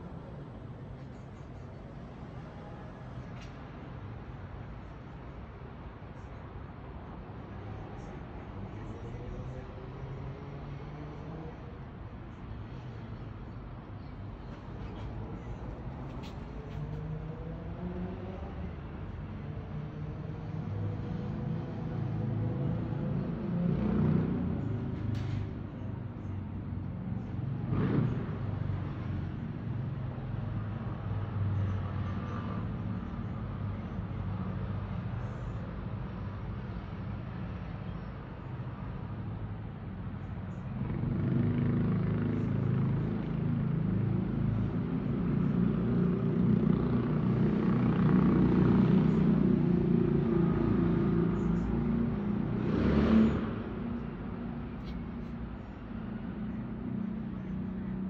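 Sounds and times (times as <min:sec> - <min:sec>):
city road traffic rumble: 0:00.0 - 0:58.0
heavy engine: 0:00.0 - 0:58.0.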